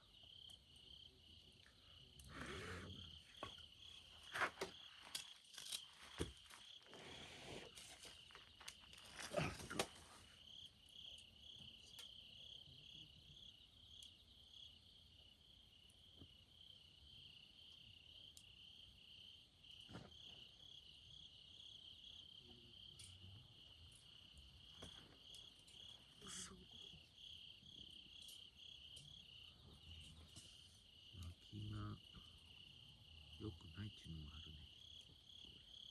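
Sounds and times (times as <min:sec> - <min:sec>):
crickets trilling: 0:00.0 - 0:35.9.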